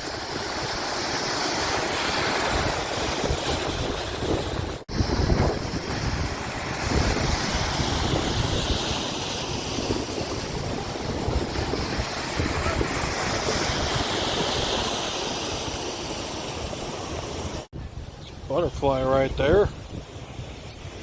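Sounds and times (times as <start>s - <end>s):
waves breaking on beach: 0.0s - 21.0s
wind buffeting microphone: 0.0s - 21.0s.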